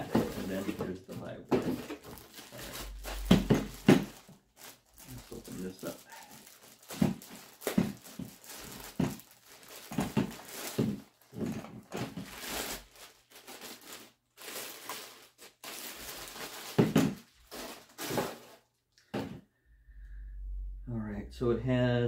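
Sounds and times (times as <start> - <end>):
plastic bag crinkling: 0.0 - 18.8.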